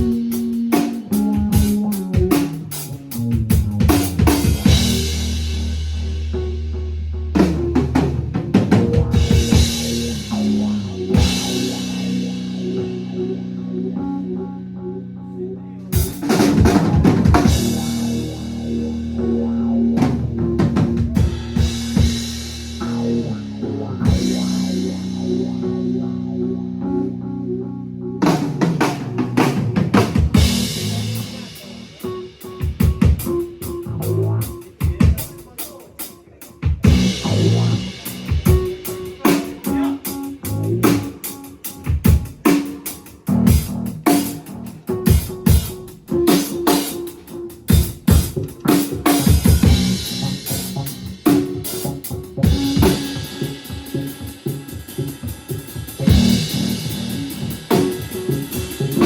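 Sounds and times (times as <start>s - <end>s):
drum fill: 0.0s - 6.8s, 7.4s - 13.2s, 16.0s - 25.6s, 28.3s - 35.9s, 36.5s - 59.0s
bass playing low notes: 0.0s - 35.5s, 36.7s - 59.0s.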